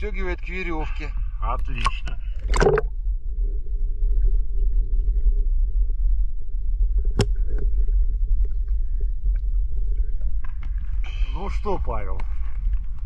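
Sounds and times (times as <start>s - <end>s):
underwater low rumble: 0.0s - 13.0s.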